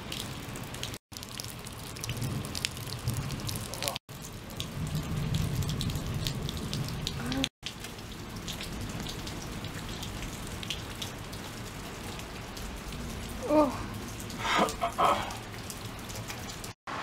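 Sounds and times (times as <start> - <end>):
raindrops dripping ticks: 0.0 - 16.8.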